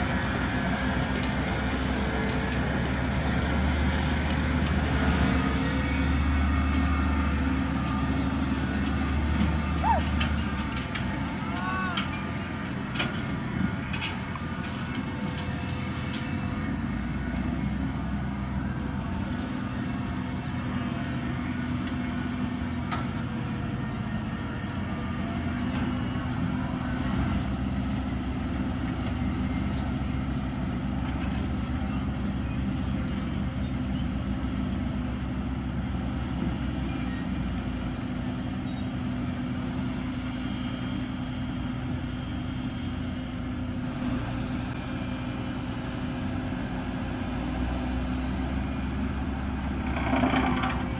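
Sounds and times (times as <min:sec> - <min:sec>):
diesel machinery engine drone: 0:00.0 - 0:50.9.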